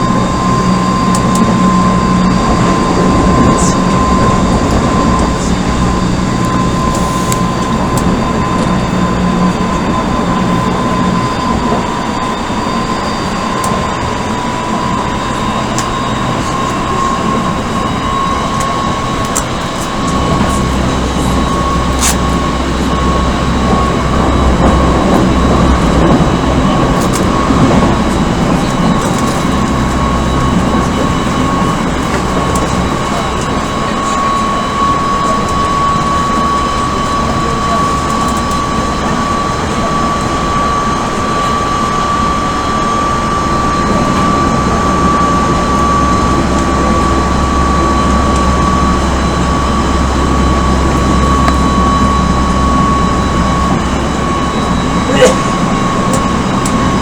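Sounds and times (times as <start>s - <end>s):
traction motor whine: 0.0s - 57.0s
train wheels rumbling on rail: 0.0s - 57.0s.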